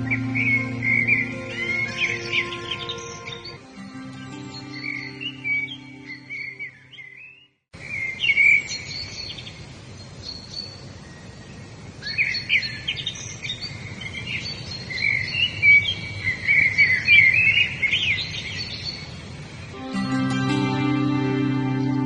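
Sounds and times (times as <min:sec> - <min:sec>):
songbirds chirping and singing: 0:00.0 - 0:10.8, 0:12.1 - 0:19.1
outdoor background hiss: 0:00.0 - 0:22.0.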